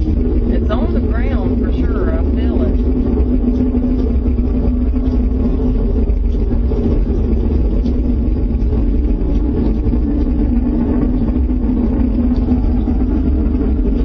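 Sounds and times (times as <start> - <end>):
loud deep rumble: 0.0 - 14.0.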